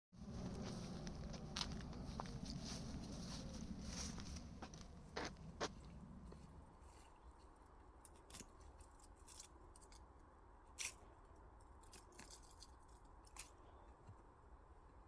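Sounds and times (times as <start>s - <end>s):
faint low hum: 0.2s - 15.0s.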